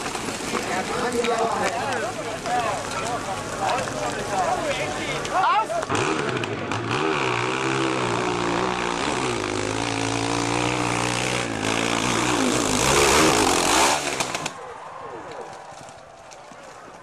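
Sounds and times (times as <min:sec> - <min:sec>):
dirt bike engine running hard: 0:00.0 - 0:14.6.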